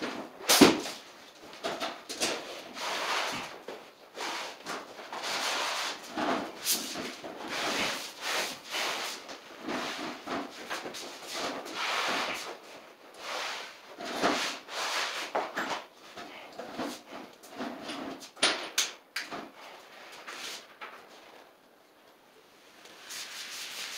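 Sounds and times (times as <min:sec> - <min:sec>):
scraping on vinyl flooring: 0:00.0 - 0:18.4, 0:19.3 - 0:21.4, 0:22.8 - 0:23.9.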